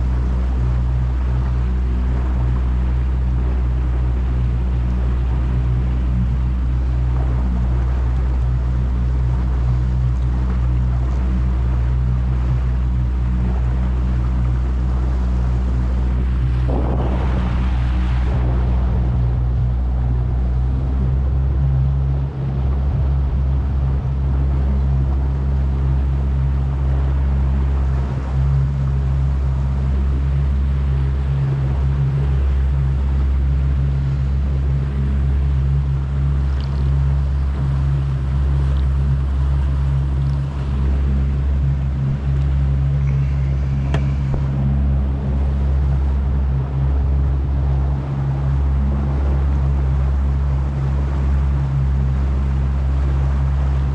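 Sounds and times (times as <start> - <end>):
boat motor humming: 0.0 - 53.9
water noise: 0.0 - 53.9
wind noise: 0.0 - 53.9.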